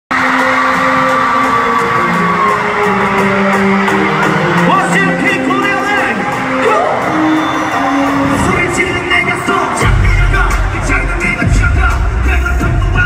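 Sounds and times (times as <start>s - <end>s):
concert music over sound system: 0.1s - 13.0s
crowd screaming and cheering: 0.1s - 13.0s.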